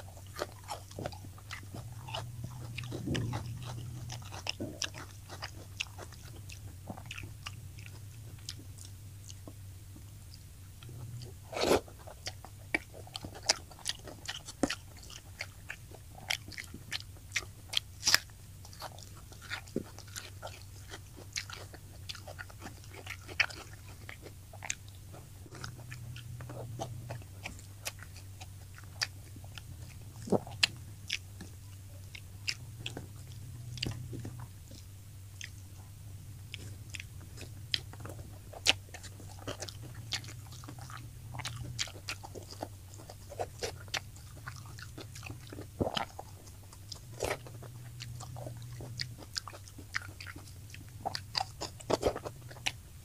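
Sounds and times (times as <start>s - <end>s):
chewing crispy fried fish: 0.0s - 53.0s.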